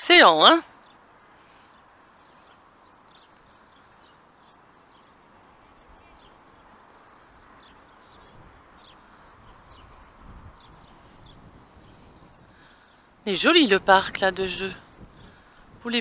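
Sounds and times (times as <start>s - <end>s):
faint outdoor hiss: 0.0s - 16.0s
small birds chirping: 0.1s - 16.0s.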